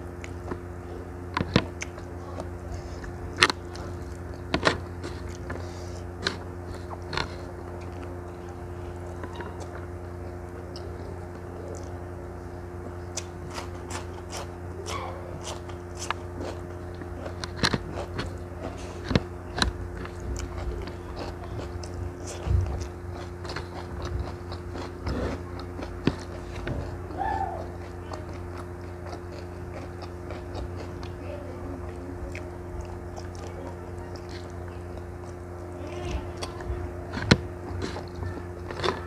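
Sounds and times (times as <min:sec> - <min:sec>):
crunchy chewing of cucumber: 0:00.0 - 0:39.0
steady low hum: 0:00.0 - 0:39.0.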